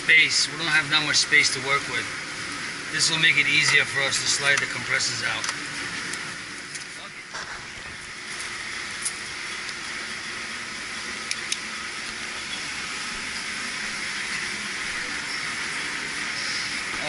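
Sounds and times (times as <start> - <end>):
steady hissing rush: 0.0 - 17.0.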